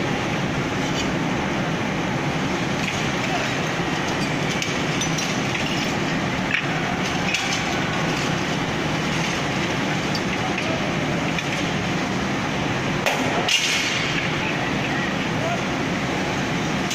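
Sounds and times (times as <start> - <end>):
machinery noise: 0.0 - 16.9.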